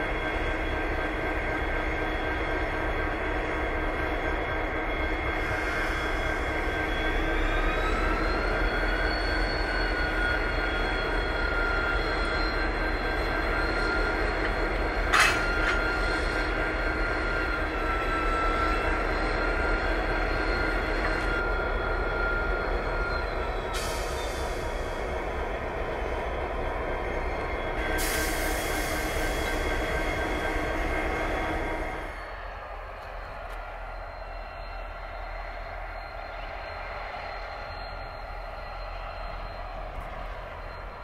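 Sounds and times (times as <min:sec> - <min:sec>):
diesel locomotive idling: 0:00.0 - 0:41.0.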